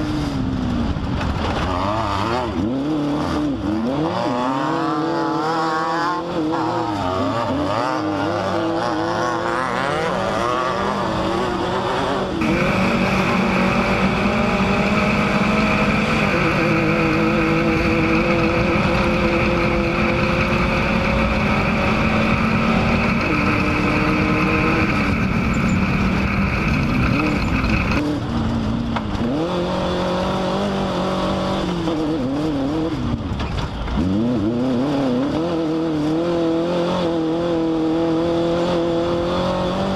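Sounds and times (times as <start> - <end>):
race vehicle engine revving: 0.0 - 39.9.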